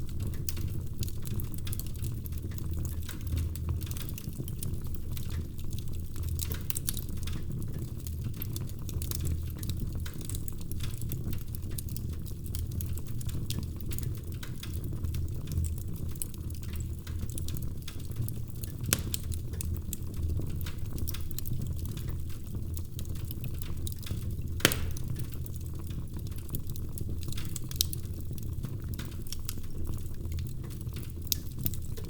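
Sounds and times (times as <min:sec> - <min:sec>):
fire crackling and popping: 0:00.0 - 0:32.0
wood fire burning: 0:00.0 - 0:32.0.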